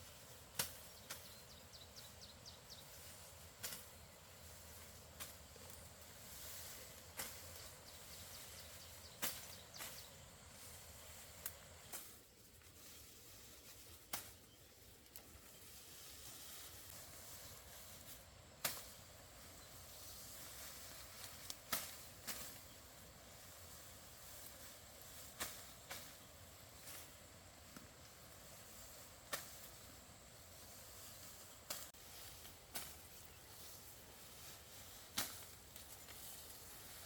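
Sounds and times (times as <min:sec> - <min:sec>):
faint outdoor hiss: 0:00.0 - 0:37.0.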